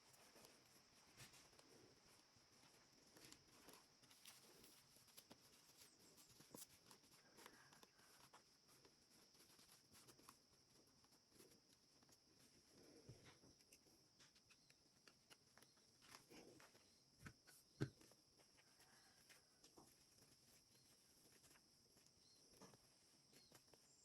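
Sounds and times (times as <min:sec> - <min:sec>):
soft rustles: 0:00.0 - 0:24.0.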